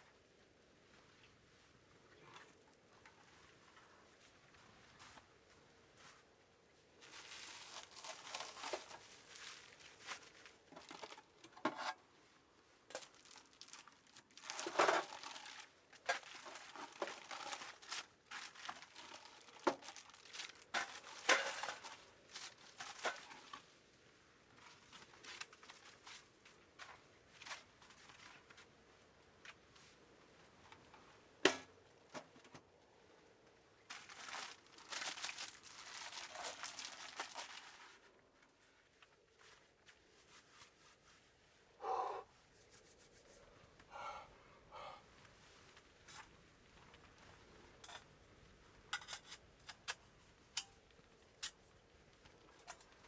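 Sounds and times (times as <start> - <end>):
rustling and crinkling handling noise: 0.1 - 41.8, 45.1 - 53.0.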